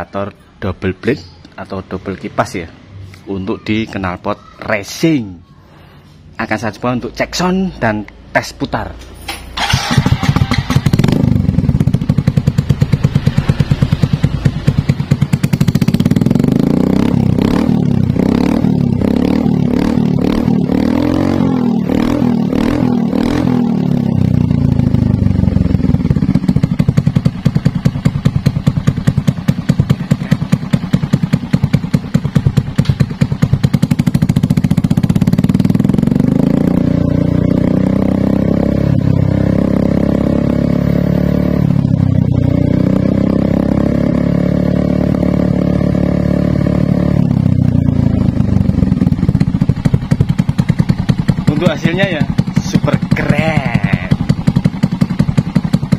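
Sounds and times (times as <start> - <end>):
motorcycle engine revving: 9.1 - 55.9.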